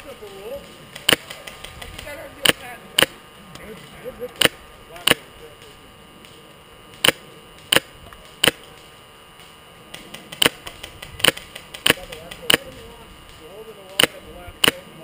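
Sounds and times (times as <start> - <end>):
airsoft rifle shots: 0.0 - 3.2, 4.3 - 5.8, 6.9 - 15.0
fainter distant shots: 0.0 - 15.0.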